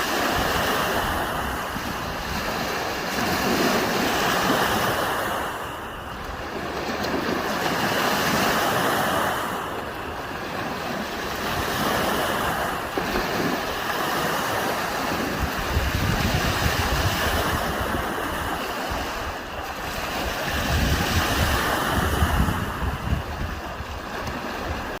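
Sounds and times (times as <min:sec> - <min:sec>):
waves washing on sandy beach: 0:00.0 - 0:25.0
wind buffeting microphone: 0:00.0 - 0:25.0.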